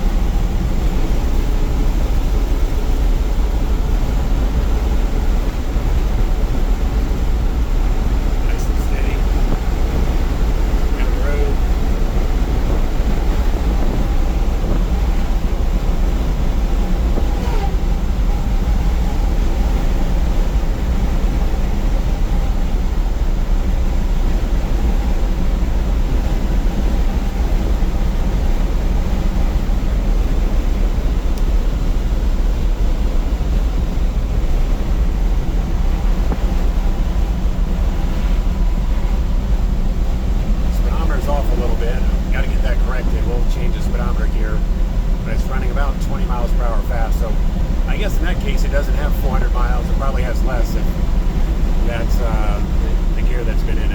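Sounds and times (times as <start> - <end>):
engine and road noise in cab: 0.0 - 53.9.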